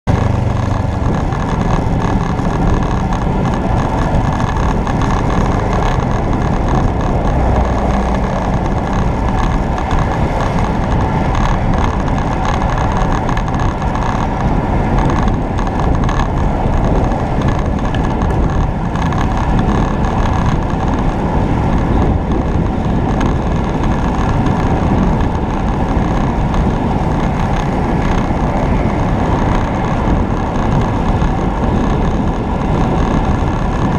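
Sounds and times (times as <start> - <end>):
motorcycle engine running: 0.0 - 33.9
wind rushing over microphone: 0.0 - 33.9.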